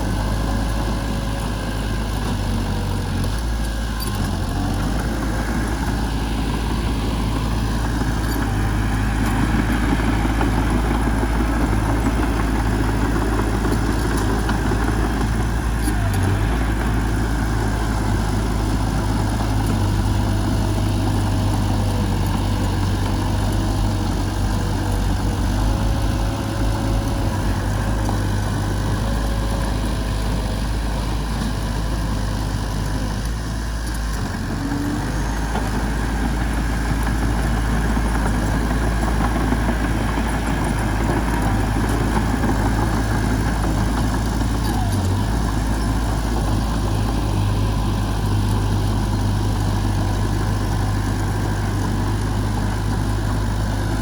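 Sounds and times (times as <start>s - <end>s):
diesel engine running at low revs: 0.0s - 54.0s.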